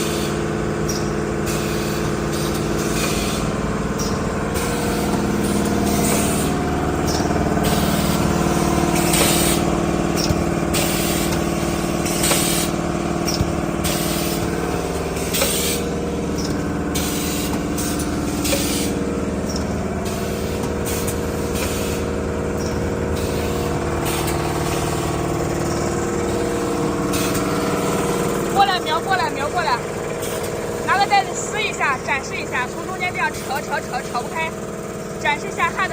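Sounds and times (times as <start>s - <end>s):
welding machine humming: 0.0s - 35.9s.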